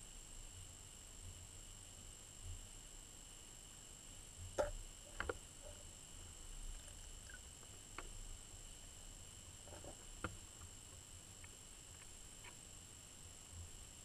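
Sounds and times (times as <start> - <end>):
steady high underwater whine: 0.0 - 14.0.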